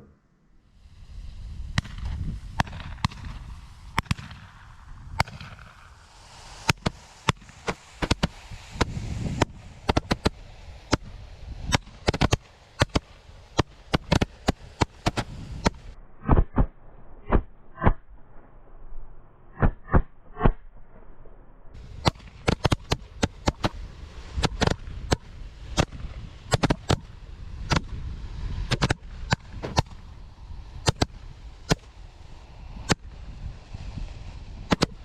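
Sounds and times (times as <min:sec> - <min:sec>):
hiss of burning fireworks: 0:00.6 - 0:16.0, 0:21.8 - 0:35.0.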